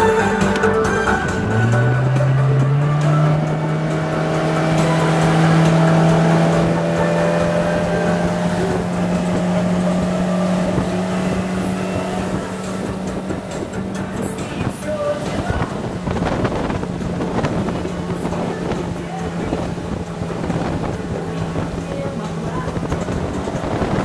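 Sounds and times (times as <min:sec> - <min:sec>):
motorboat engine running: 0:00.0 - 0:24.0
wind and water rushing: 0:00.0 - 0:24.0.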